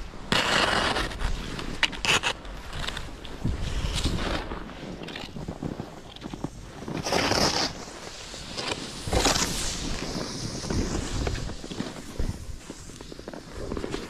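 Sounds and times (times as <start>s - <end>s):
skis scraping over snow: 0.2s - 14.0s
wind on microphone: 2.7s - 14.0s.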